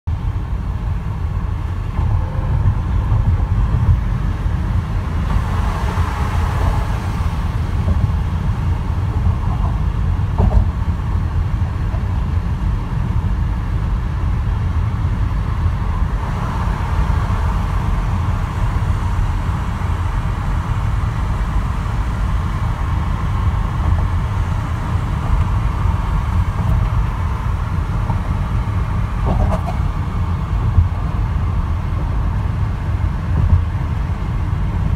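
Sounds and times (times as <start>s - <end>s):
car cabin road rumble: 0.1s - 34.9s.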